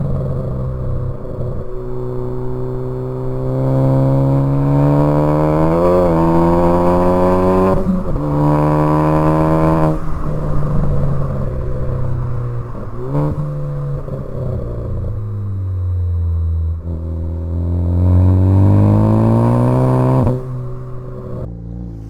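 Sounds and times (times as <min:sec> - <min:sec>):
car engine accelerating hard: 0:00.0 - 0:22.0.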